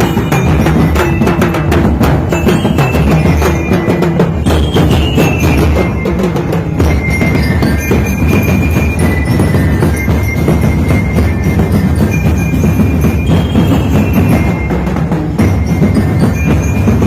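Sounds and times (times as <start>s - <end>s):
snare and bass drums beating: 0.0s - 17.0s.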